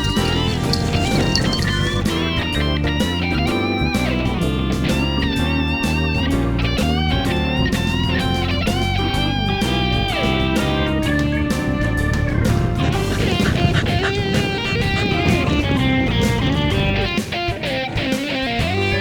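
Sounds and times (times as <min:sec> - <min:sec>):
bass line: 0:00.0 - 0:17.2.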